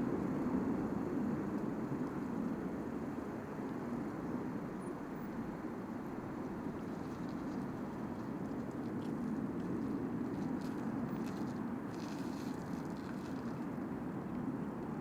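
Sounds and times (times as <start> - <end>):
distant jet aircraft rumble: 0.0 - 15.0.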